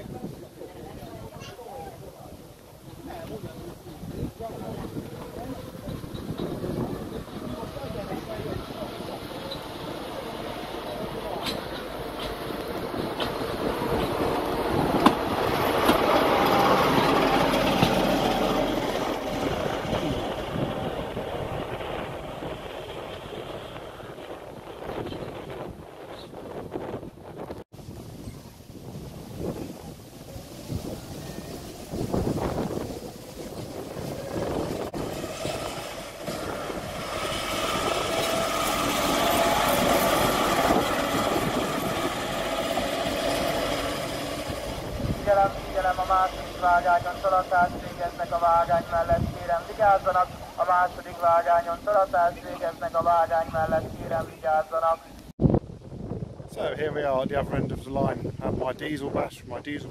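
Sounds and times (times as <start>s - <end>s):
diesel locomotive passing: 2.1s - 27.6s, 29.4s - 55.3s.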